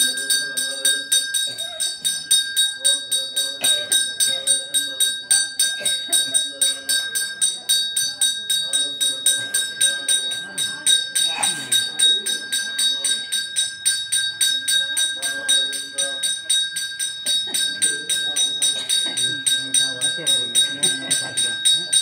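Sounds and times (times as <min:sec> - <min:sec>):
bell rung rapidly: 0:00.0 - 0:22.0
voices murmuring: 0:00.0 - 0:22.0.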